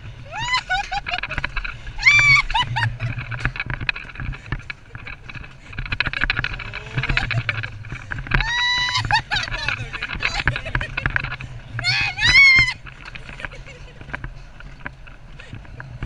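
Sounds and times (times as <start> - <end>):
riders shrieking and laughing: 0.0 - 16.0
sled rumbling and rattling on rail: 0.0 - 16.0.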